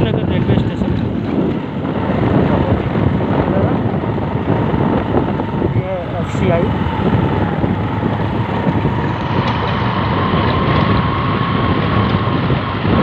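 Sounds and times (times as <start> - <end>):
vehicle engine running: 0.0 - 13.0
wind noise on microphone: 0.0 - 13.0
thin steady whine: 0.3 - 13.0.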